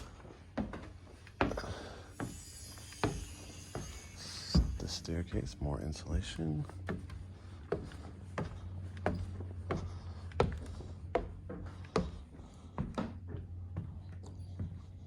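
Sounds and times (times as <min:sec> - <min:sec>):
footsteps on wooden floor: 0:00.0 - 0:15.0
steady low hum: 0:00.0 - 0:15.0.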